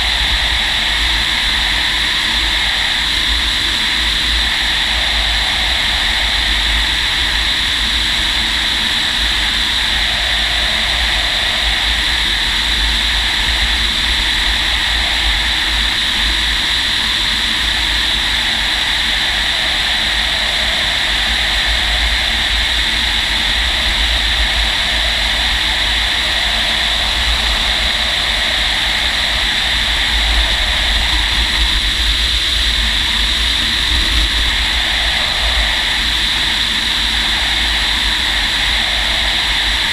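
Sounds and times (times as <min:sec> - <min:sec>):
rush of air around cockpit: 0:00.0 - 0:39.9
wind buffeting rumble: 0:00.0 - 0:39.9.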